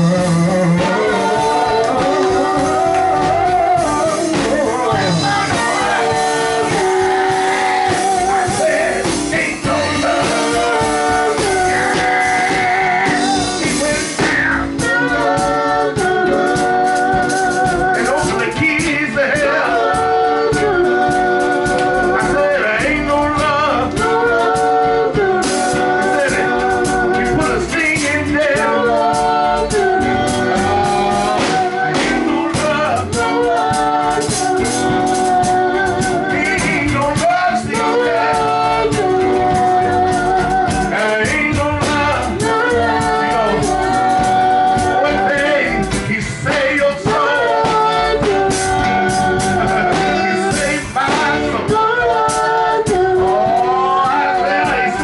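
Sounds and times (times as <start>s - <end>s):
live band playing: 0.0s - 55.0s
male group singing in harmony: 0.0s - 55.0s
solo voice singing: 0.0s - 55.0s.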